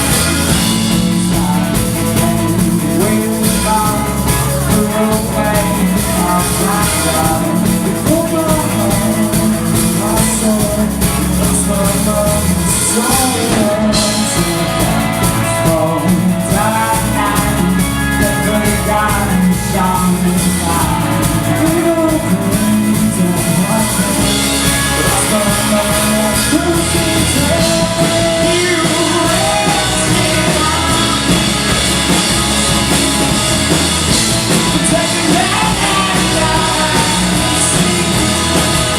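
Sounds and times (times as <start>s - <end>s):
drum kit: 0.0s - 38.9s
guitar: 0.0s - 38.9s
live rock band playing: 0.0s - 38.9s
person singing: 0.0s - 38.9s.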